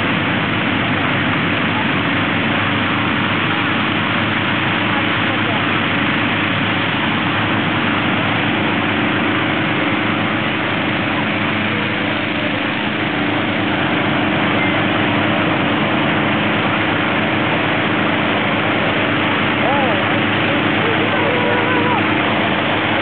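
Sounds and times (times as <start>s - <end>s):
inflator fan engine and air rush: 0.0s - 23.0s.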